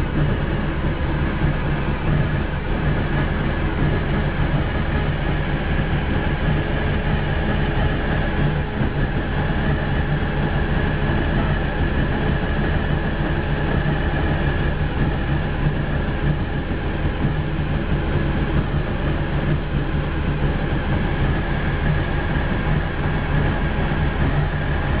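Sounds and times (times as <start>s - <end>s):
van engine running steadily: 0.0s - 25.0s.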